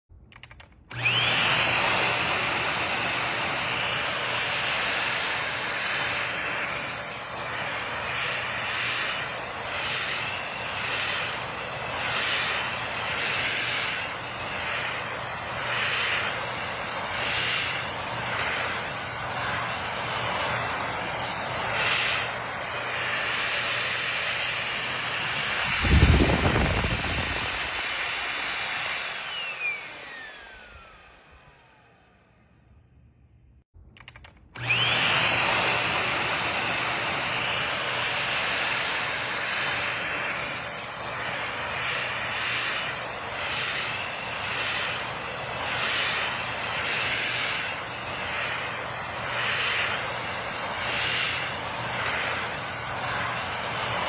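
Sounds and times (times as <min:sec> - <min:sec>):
stick vacuum cleaner whirring: 0:00.2 - 0:33.0, 0:33.9 - 0:54.0.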